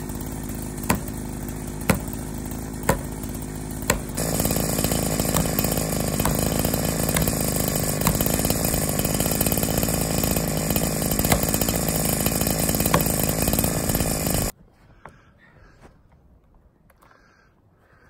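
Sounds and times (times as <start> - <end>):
chainsaw cutting tree trunk: 0.0 - 14.5.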